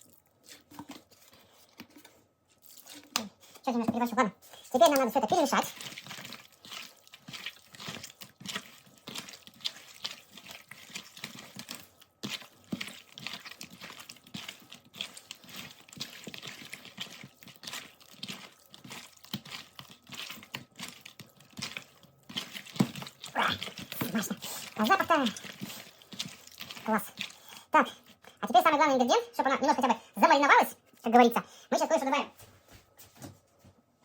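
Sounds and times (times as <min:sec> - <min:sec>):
meat squelching in a bowl: 0:00.0 - 0:31.8.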